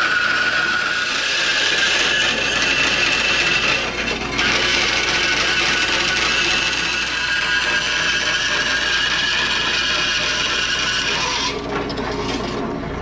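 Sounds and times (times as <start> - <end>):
band saw rasping with ringing: 0.0 - 12.6.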